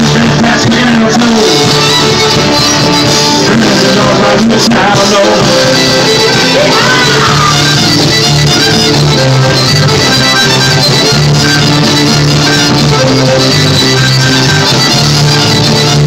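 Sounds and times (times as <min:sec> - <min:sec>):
fiddle: 0:00.0 - 0:16.0
guitar accompaniment: 0:00.0 - 0:16.0.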